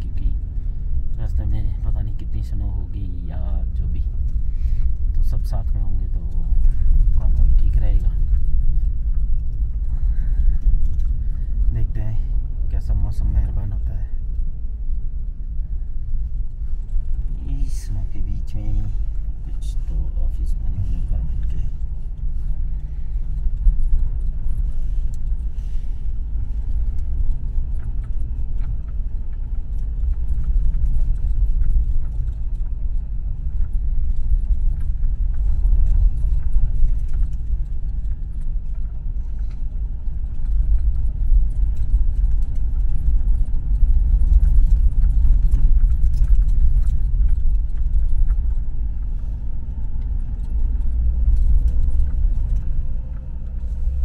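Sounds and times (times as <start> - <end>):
vehicle engine and tyres rumbling: 0.0 - 54.0.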